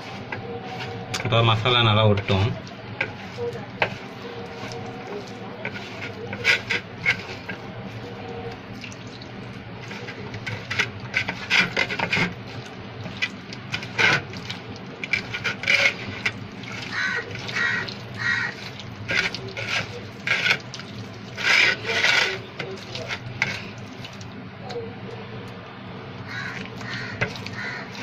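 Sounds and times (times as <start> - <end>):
hand squishing prawns on metal plate: 2.2 - 8.0, 9.8 - 24.8, 26.3 - 28.0.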